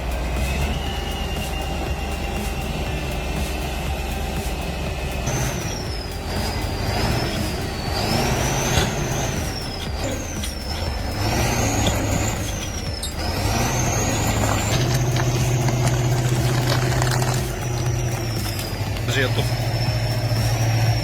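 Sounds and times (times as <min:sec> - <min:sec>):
heavy machine engine hum: 0:00.0 - 0:21.0.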